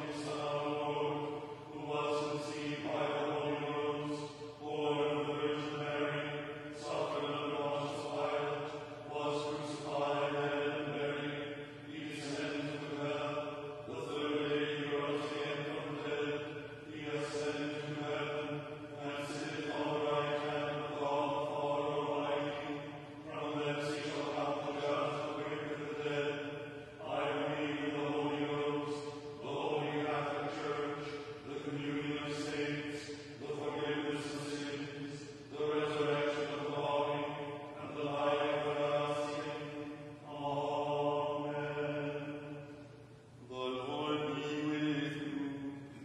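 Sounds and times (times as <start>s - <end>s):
liturgical chanting: 0.0s - 46.0s.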